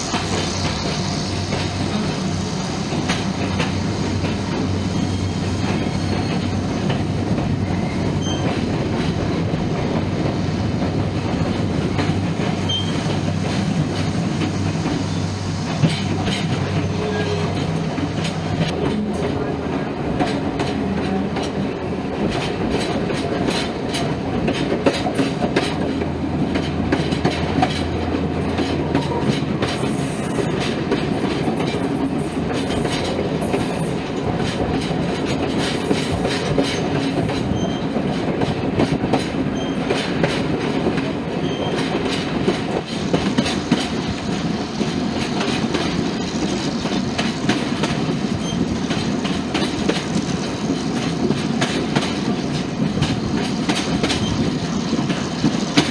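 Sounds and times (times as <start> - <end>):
train rumble and hum: 0.0 - 55.9
train wheels clicking over rail joints: 0.0 - 55.9.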